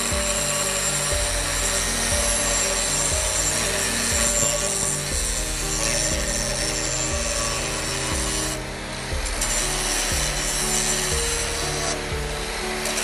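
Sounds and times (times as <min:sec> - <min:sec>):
angle grinder grinding steel: 0:00.0 - 0:13.0
background music: 0:00.0 - 0:13.0.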